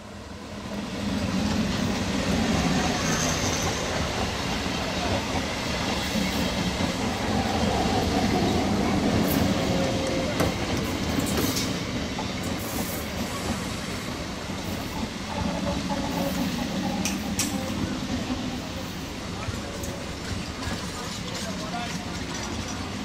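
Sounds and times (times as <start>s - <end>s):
train rumbling over rails: 0.0s - 23.0s
rail joint clacks: 1.4s - 23.0s.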